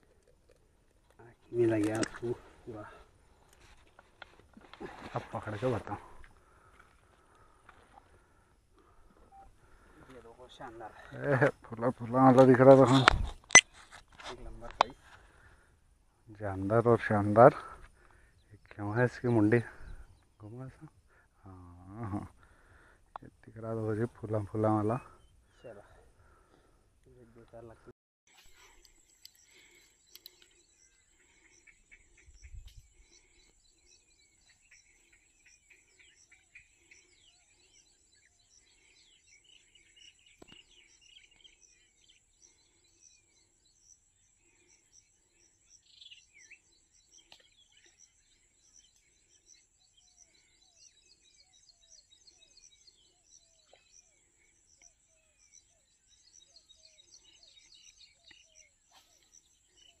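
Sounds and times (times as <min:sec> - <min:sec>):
small birds chirping: 0:00.0 - 1:00.0.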